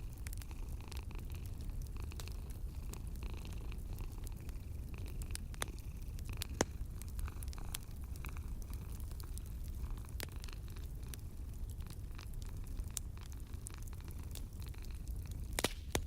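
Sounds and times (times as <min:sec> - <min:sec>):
cat purring: 0:00.0 - 0:15.6
wood fire crackling: 0:00.0 - 0:16.0.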